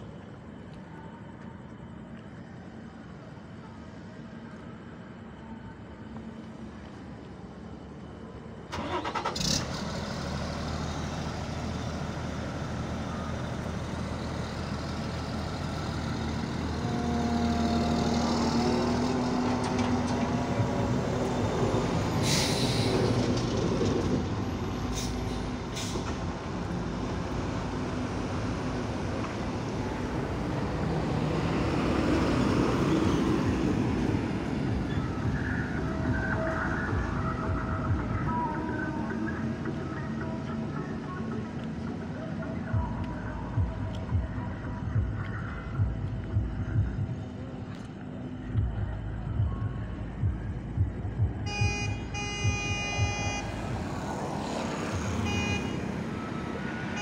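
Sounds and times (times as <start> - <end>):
diesel engine running: 8.7 - 57.0.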